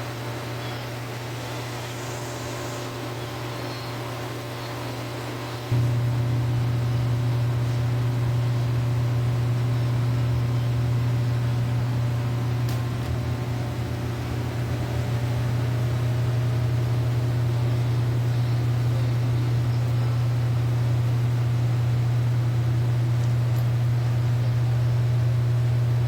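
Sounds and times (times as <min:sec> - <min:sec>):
pool pump humming: 0:00.0 - 0:26.0.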